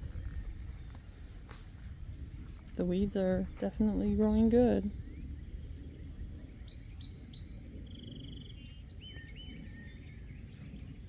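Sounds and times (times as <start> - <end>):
low background rumble: 0.0 - 11.0
songbirds chirping: 0.0 - 11.0.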